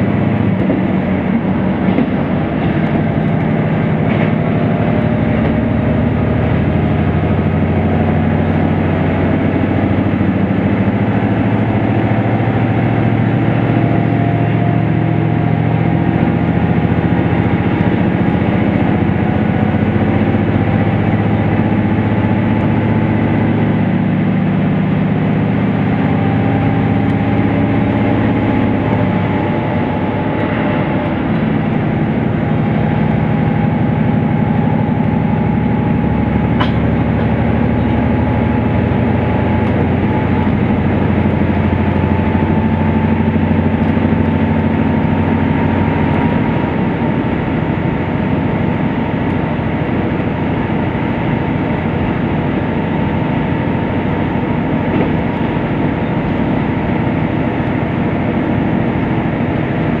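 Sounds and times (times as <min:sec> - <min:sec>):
diesel engine drone: 0:00.0 - 1:00.0
train wheels on rails: 0:00.0 - 1:00.0.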